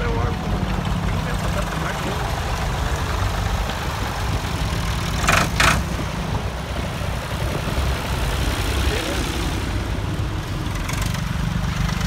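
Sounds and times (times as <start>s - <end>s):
tractor engines running: 0.0s - 12.0s.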